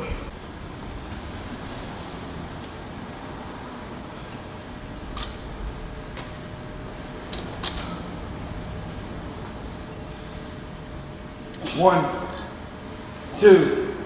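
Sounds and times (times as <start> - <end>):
low gym hum: 0.0 - 14.0.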